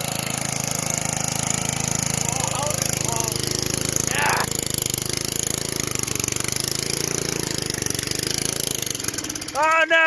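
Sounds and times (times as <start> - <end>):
lawn mower engine putter: 0.0 - 10.0.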